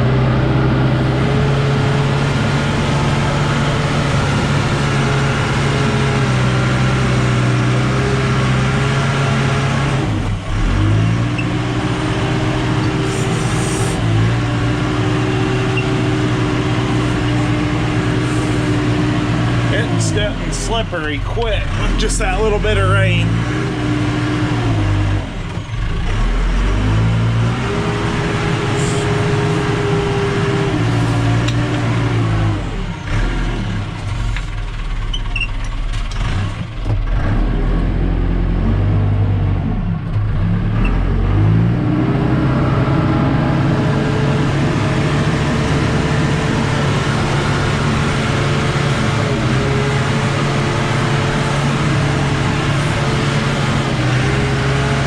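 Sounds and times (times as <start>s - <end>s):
diesel engine working under load: 0.0s - 55.0s.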